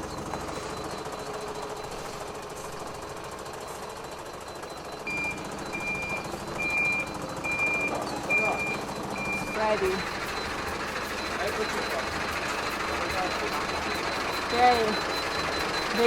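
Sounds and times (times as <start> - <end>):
reversing alarm beeping: 0.0 - 16.0
truck engine running hard: 0.0 - 16.0.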